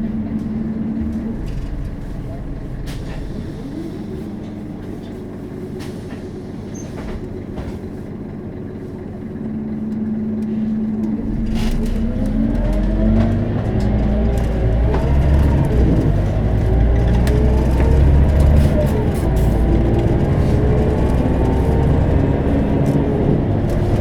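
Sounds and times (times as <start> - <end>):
bus diesel engine accelerating: 0.0 - 24.0.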